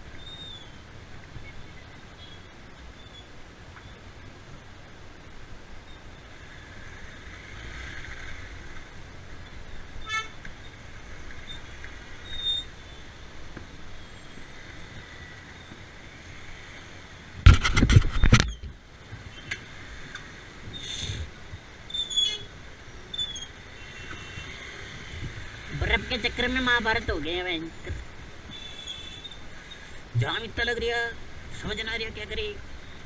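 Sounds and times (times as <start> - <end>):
traffic noise: 0.0 - 33.0.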